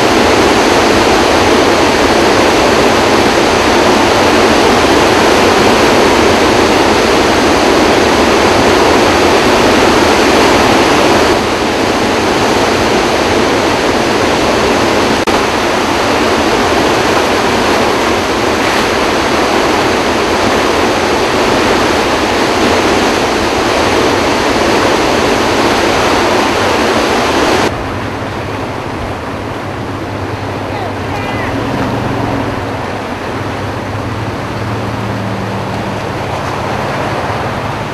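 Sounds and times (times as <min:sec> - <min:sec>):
floodwater rushing through spillway: 0:00.0 - 0:37.9.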